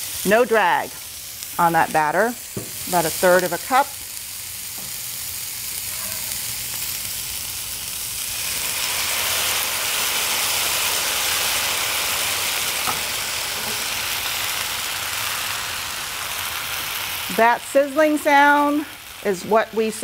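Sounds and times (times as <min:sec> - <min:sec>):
batter sizzling in a skillet: 0:00.0 - 0:20.0.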